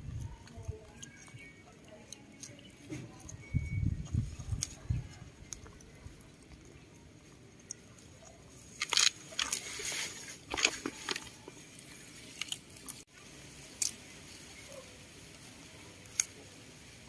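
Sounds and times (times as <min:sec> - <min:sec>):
animals crunching leafy stems: 0:00.0 - 0:17.0.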